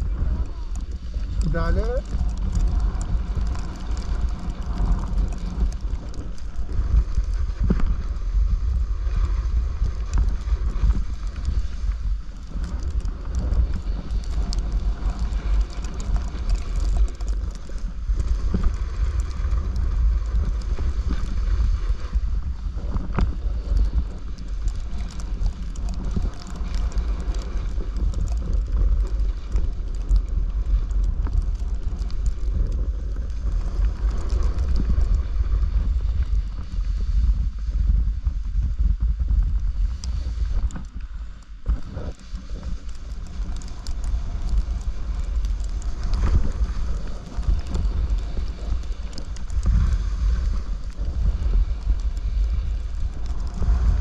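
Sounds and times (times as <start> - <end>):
snowboard scraping over snow: 0.0 - 54.0
wind buffeting microphone: 0.0 - 54.0.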